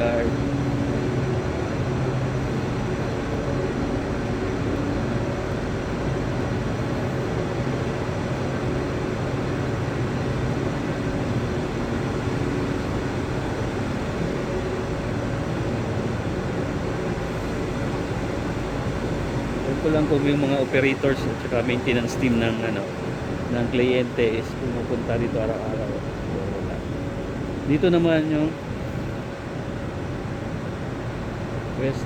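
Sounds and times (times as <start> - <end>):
low hum: 0.0 - 32.0
power plant rushing drone: 0.0 - 32.0.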